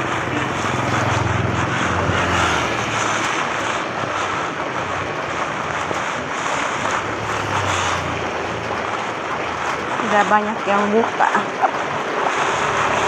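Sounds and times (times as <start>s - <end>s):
heavy rain on an umbrella: 0.0s - 13.0s
vehicle engine hum: 0.0s - 13.0s.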